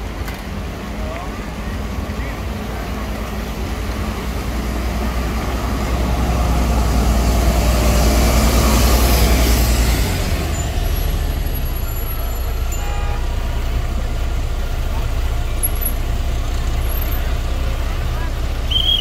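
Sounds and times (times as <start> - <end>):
bus engine rumble passing: 0.0 - 19.0.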